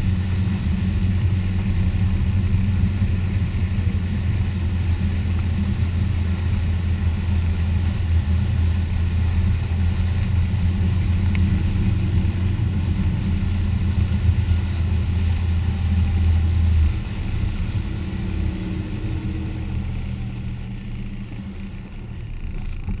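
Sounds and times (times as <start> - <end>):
motorboat engine drone: 0.0 - 23.0
rushing water: 0.0 - 23.0.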